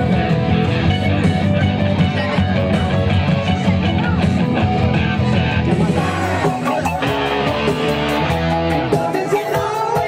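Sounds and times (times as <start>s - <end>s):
electric guitar: 0.0s - 10.0s
rock band playing: 0.0s - 10.0s.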